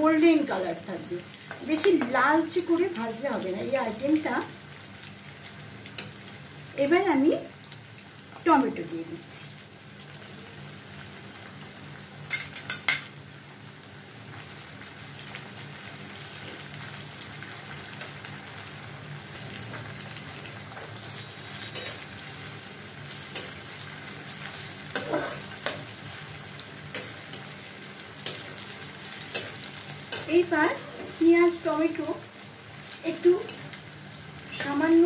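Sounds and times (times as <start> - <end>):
onion and tomato sizzling in oil: 0.0 - 35.0.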